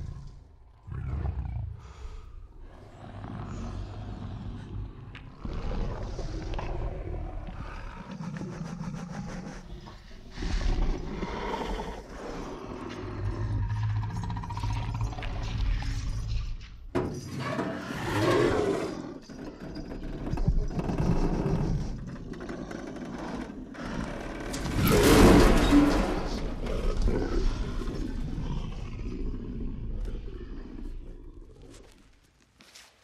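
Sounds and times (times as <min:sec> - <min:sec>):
dinosaur growls and breaths: 0:00.0 - 0:32.3.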